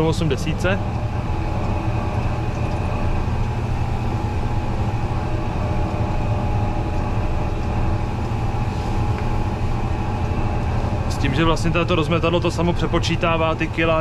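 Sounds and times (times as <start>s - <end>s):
faint steady whine: 0.0s - 14.0s
tractor diesel engine drone: 0.0s - 14.0s.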